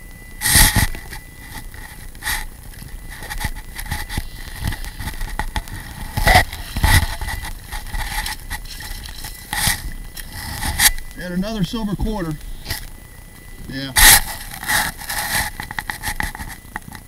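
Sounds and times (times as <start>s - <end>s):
faint steady high tone: 0.0s - 17.0s.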